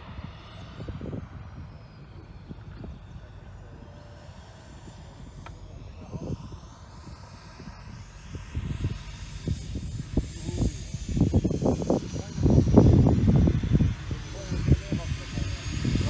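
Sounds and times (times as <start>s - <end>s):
model jet turbine whining: 0.0s - 16.0s
wind buffeting microphone: 0.0s - 16.0s.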